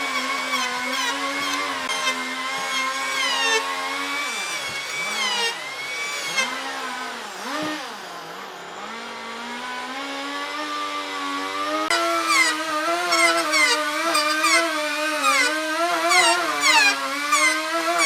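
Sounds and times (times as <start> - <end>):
power tool cutting wood: 0.0 - 18.0.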